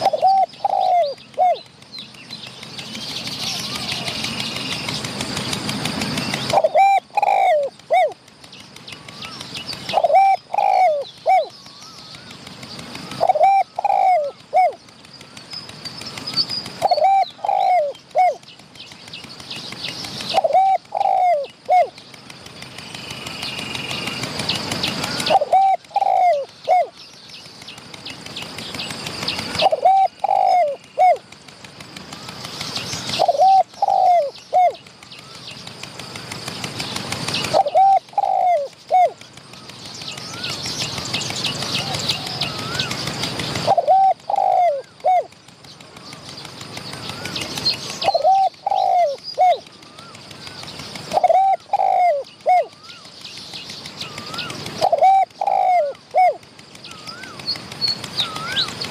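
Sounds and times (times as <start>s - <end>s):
doves cooing: 0.0s - 1.8s, 3.4s - 18.5s, 20.1s - 22.6s, 23.6s - 27.0s, 27.8s - 58.9s
small birds chirping: 0.0s - 58.9s.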